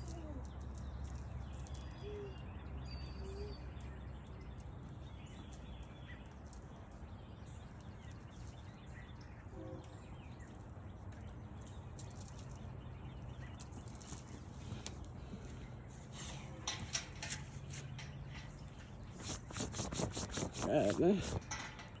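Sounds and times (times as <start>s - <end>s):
faint bird chirps: 0.0s - 21.9s
steady low hum: 0.0s - 22.0s.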